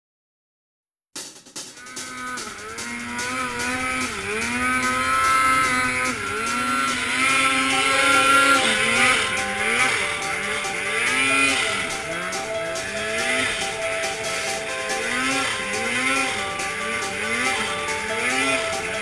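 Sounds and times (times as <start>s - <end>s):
snowmobile engine revving: 1.8s - 19.0s.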